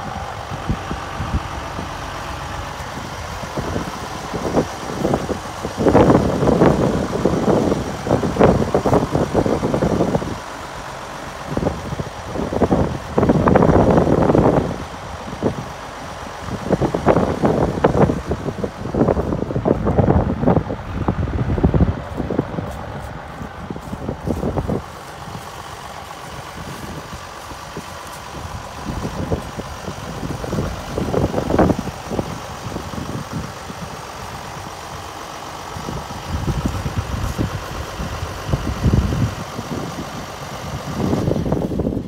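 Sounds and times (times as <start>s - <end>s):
tractor diesel engine idling: 0.0s - 42.0s
wind buffeting microphone: 0.0s - 42.0s.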